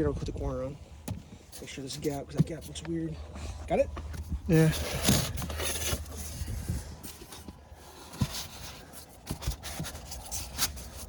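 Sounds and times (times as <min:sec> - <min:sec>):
foam blocks scraping: 0:00.6 - 0:11.0.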